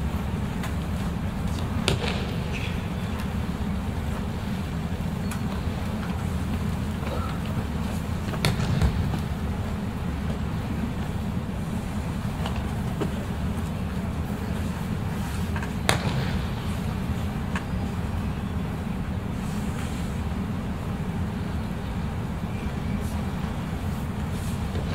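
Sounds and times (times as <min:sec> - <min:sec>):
low rumble of large hall: 0:00.0 - 0:24.9.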